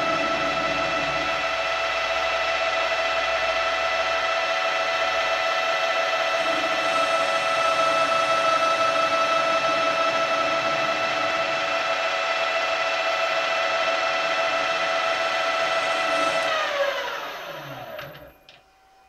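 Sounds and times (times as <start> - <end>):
metal lathe whining: 0.0 - 18.7.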